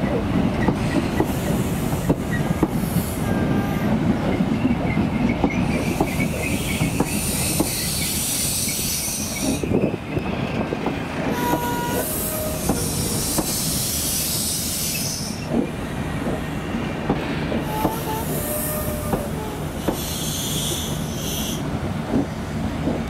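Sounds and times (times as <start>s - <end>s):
train wheels squealing: 0.6s - 15.5s, 17.7s - 21.6s.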